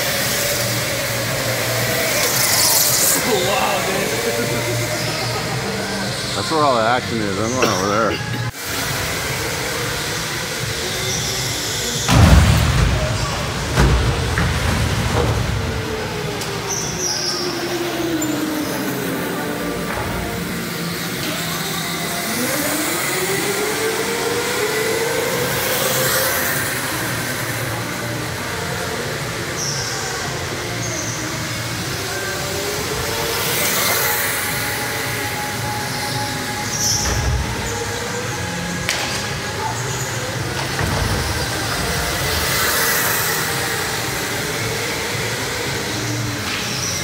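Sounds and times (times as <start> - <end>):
go-kart engine accelerating: 0.0 - 47.0
go-karts running: 0.0 - 47.0.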